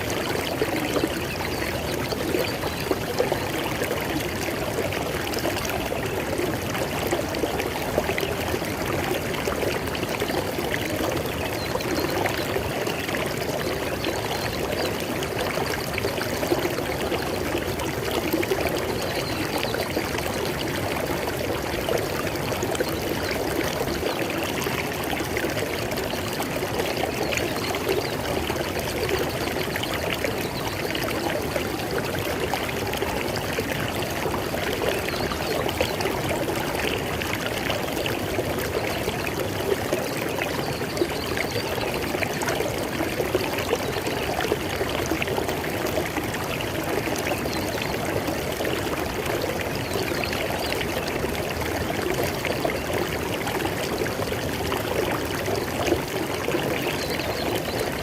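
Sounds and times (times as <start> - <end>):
water splashes and gurgles: 0.0 - 58.0.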